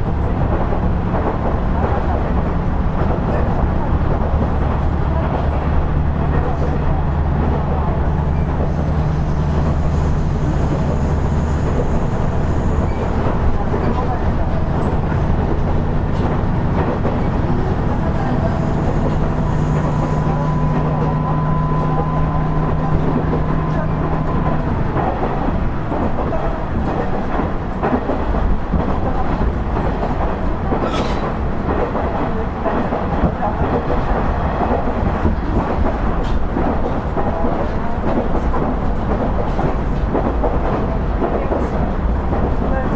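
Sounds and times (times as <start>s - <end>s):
wheels rumbling on rails: 0.0s - 42.9s.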